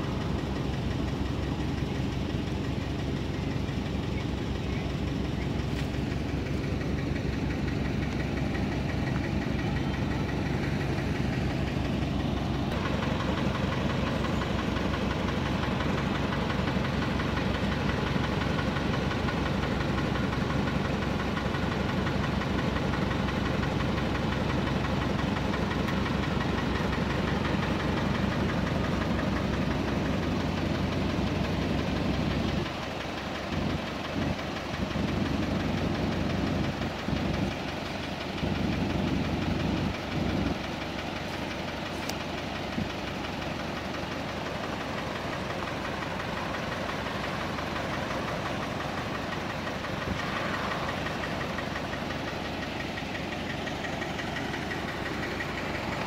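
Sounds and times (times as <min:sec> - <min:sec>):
engine idling with rattle: 0:00.0 - 0:56.0.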